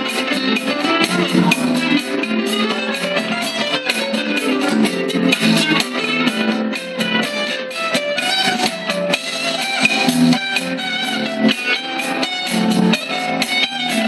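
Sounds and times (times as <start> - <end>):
electric guitar picked notes: 0.0 - 14.0.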